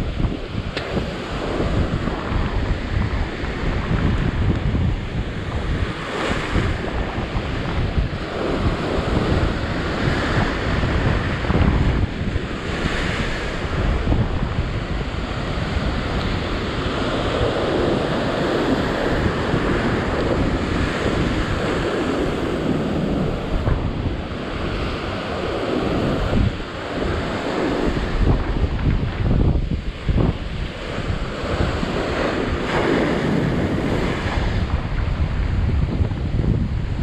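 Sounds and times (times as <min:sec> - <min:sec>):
ocean surf breaking over rocks: 0:00.0 - 0:37.0
wind buffeting microphone: 0:00.0 - 0:37.0.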